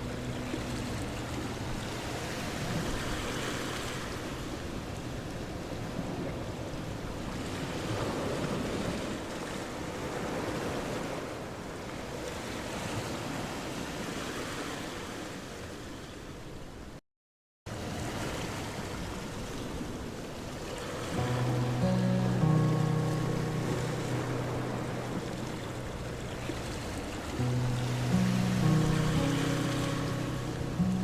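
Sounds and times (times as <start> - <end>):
surf-like rushing water: 0.0 - 17.0, 17.7 - 31.0.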